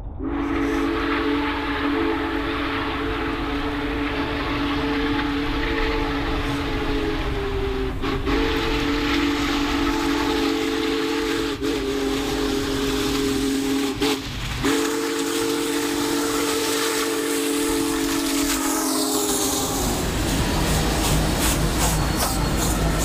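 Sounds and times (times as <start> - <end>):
steam train rumbling: 0.0 - 23.0
steam chime whistle: 0.2 - 20.0, 21.4 - 23.0.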